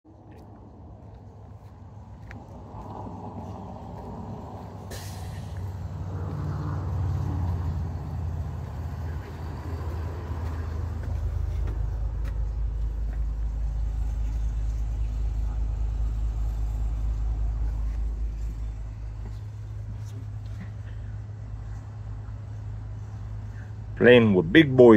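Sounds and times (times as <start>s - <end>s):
diesel engine idling rumble: 0.7s - 24.9s.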